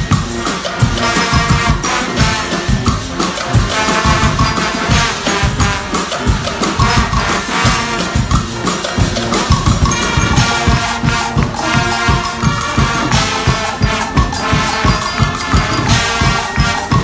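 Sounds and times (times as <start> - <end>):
brass horns playing chords: 0.0 - 17.0
steady drum beat: 0.0 - 17.0.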